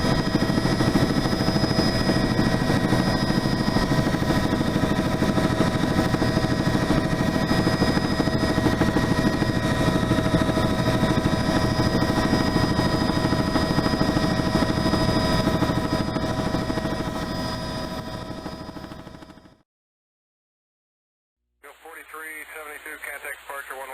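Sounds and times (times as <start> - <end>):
helicopter turbine and rotor: 0.0 - 19.6.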